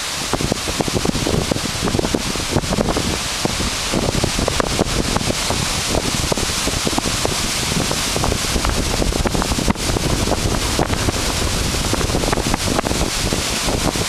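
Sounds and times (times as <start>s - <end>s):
floodwater rushing: 0.0s - 14.0s
wind buffeting microphone: 0.0s - 14.0s.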